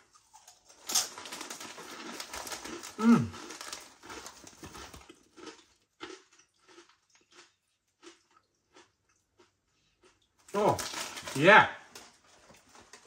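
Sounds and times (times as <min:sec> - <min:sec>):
person chewing crunchy crisps: 0:00.0 - 0:13.0.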